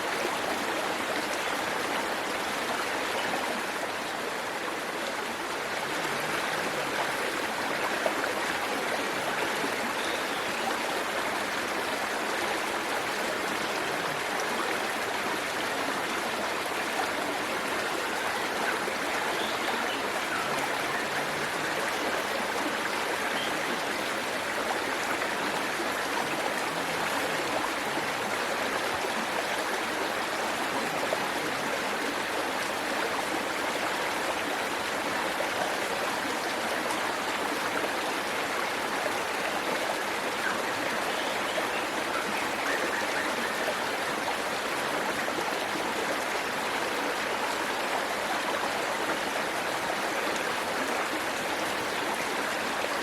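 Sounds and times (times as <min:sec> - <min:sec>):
stream running over rocks: 0:00.0 - 0:53.0.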